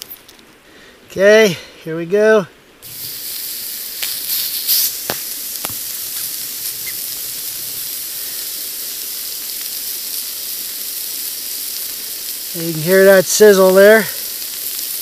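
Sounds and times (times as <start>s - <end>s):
sharp pops and crackles: 2.8s - 15.0s
steak sizzling on hot rock: 2.8s - 15.0s.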